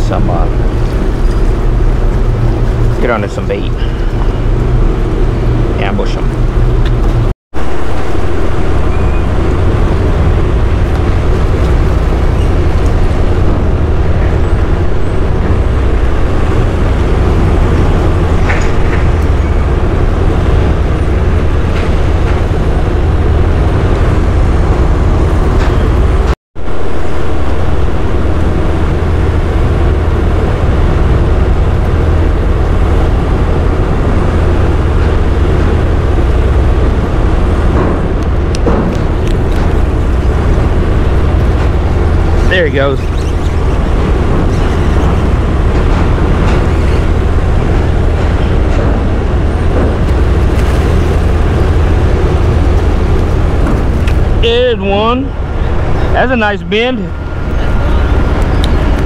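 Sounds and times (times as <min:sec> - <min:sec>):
large diesel engine rumbling: 0:00.0 - 0:59.0
wind and water hiss: 0:00.0 - 0:59.0.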